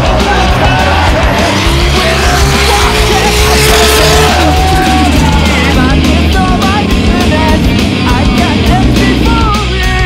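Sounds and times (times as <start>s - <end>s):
loud music with heavy bass: 0.0s - 10.0s.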